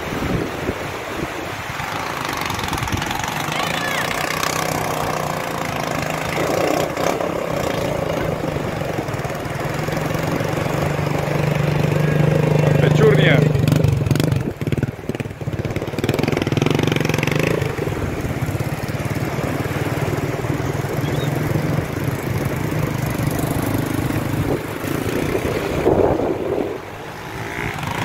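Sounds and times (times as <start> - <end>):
surf: 0.0 - 28.0
wind on microphone: 0.0 - 28.0
motorcycle engine running: 2.1 - 28.0.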